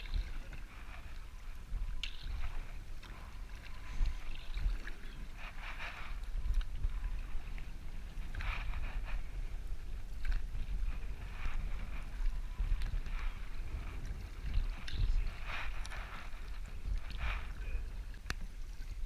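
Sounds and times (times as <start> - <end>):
paddle strokes splashing water: 0.0 - 19.0
wind on microphone: 0.0 - 19.0.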